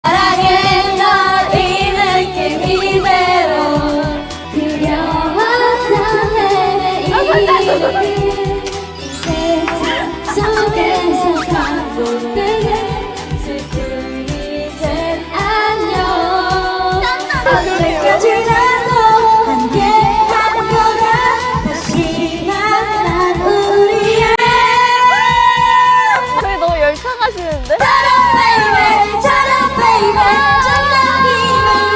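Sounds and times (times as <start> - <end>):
karaoke backing track: 0.0 - 31.9
woman singing pop song: 0.1 - 31.9.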